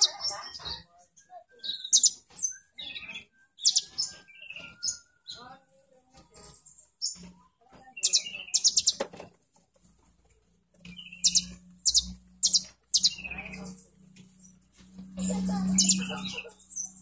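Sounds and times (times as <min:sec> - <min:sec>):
bird chirping trills: 0:00.0 - 0:05.6, 0:06.2 - 0:09.1, 0:10.8 - 0:17.0.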